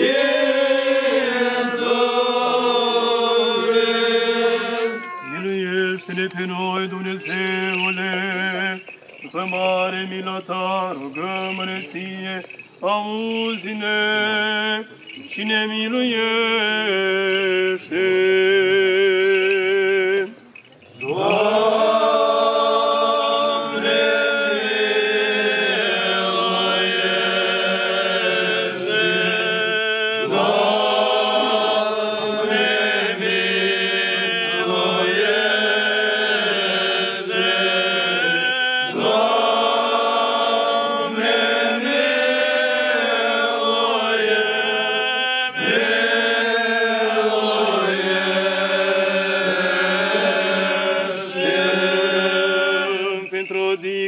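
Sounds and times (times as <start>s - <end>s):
voices chanting slowly: 0.0s - 54.0s.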